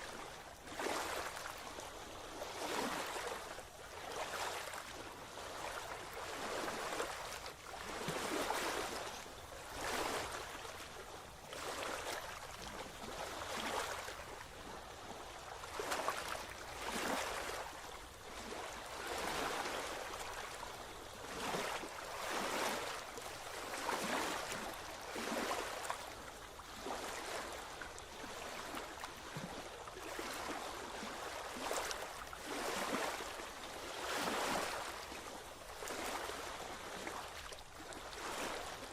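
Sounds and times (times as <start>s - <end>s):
small waves washing on beach: 0.0s - 38.9s.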